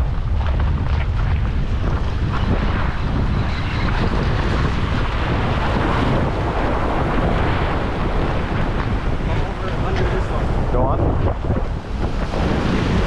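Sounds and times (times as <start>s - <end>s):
wind buffeting microphone: 0.0s - 13.0s
waves washing against rocks: 0.1s - 13.0s.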